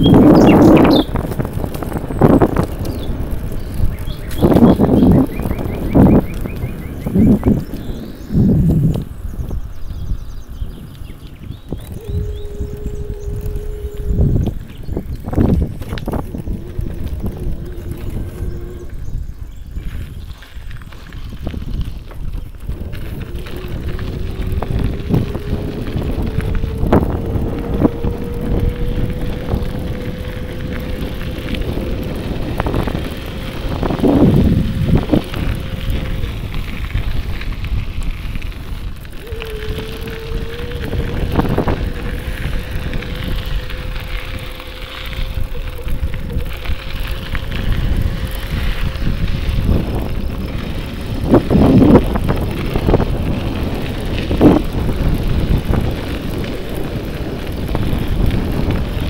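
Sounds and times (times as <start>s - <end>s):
bicycle bumps: 0.0s - 59.0s
bicycle rumble: 0.0s - 59.0s
wind on microphone: 0.0s - 59.0s.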